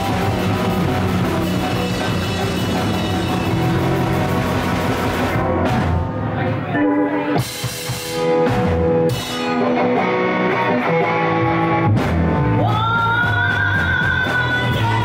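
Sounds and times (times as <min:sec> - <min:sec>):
funk band playing: 0:00.0 - 0:15.0.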